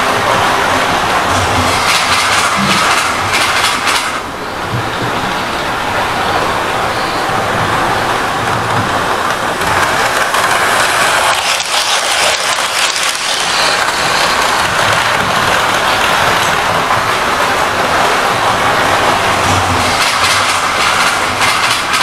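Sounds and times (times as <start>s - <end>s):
model train whirring: 0.0s - 4.5s, 5.4s - 22.0s
wheels clicking over rail joints: 0.0s - 6.0s, 7.0s - 22.0s.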